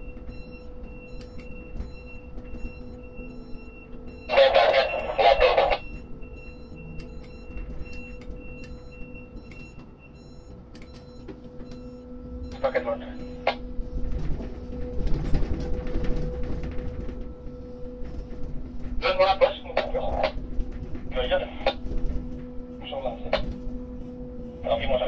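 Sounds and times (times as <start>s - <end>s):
electronic warning beep: 0.0s - 20.4s
crane machinery humming: 0.0s - 25.0s.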